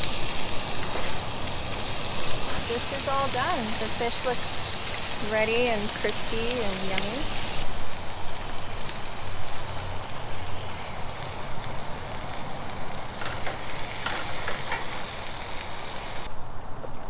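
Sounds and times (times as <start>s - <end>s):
food sizzling in frying pan: 0.0s - 16.3s.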